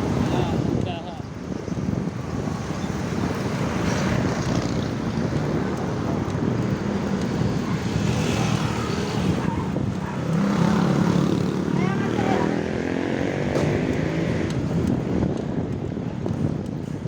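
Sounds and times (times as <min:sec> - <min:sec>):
road and vehicle noise: 0:00.0 - 0:17.0
wind rushing over microphone: 0:00.0 - 0:17.0.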